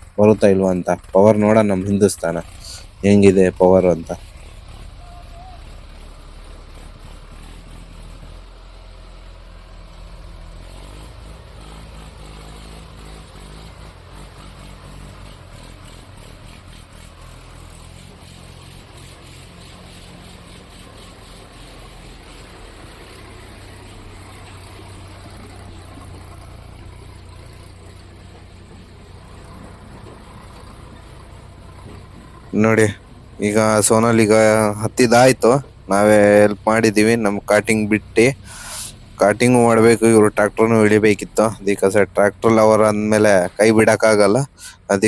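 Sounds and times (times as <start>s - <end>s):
tractor diesel engines under load: 0.0s - 45.0s.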